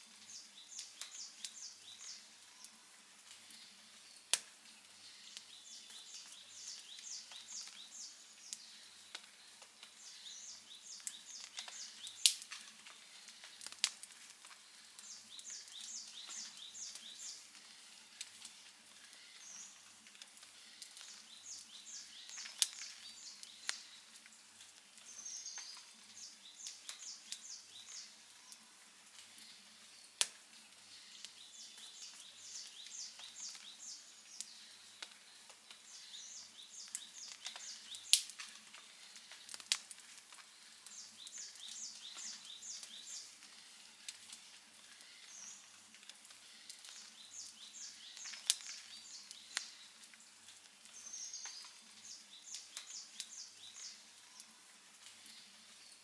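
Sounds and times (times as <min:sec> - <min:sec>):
wood fire crackling and popping: 0:00.1 - 0:56.0.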